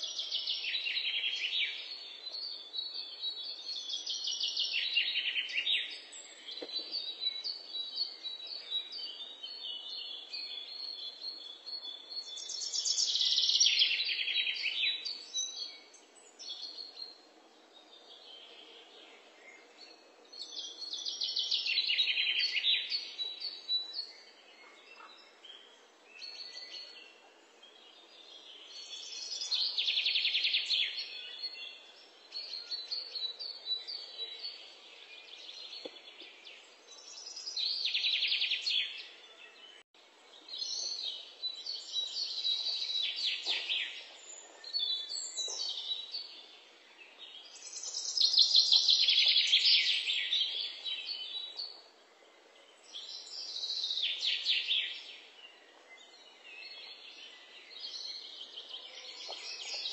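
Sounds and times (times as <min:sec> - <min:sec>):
faint outdoor ambience: 0:00.0 - 0:59.9.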